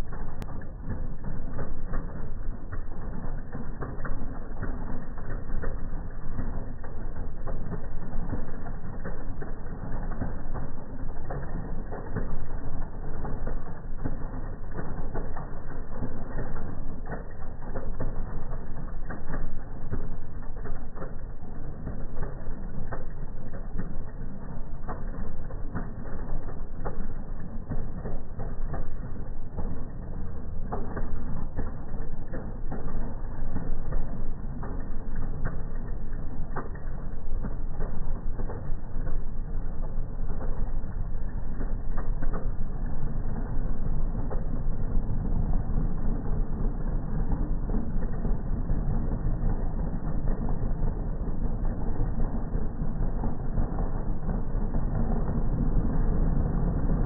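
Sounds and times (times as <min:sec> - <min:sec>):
rapid irregular engine pops: 0:00.0 - 0:57.0
slowed engine idling rumble: 0:00.0 - 0:57.0.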